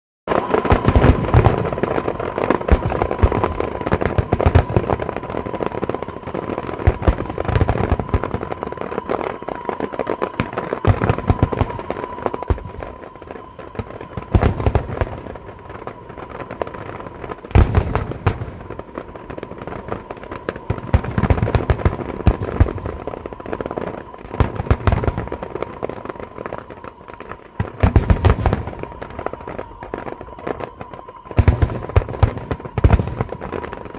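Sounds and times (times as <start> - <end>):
fireworks cracking and crackling: 0.3 - 33.9.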